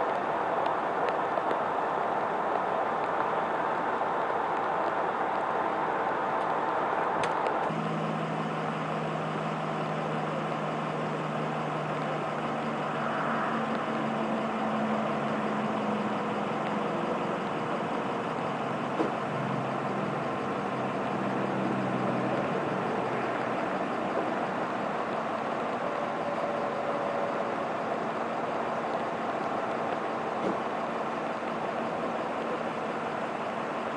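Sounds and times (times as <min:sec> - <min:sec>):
background hum: 0:00.0 - 0:33.9
large vehicle engine idling: 0:00.0 - 0:33.9.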